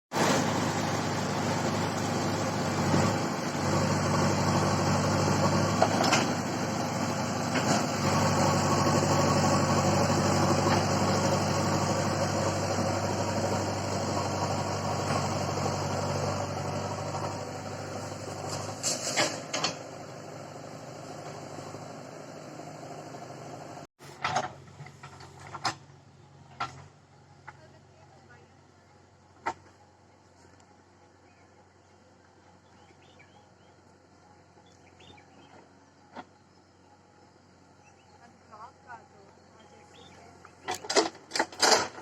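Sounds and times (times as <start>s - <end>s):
digger diesel engine running: 0.1s - 42.0s.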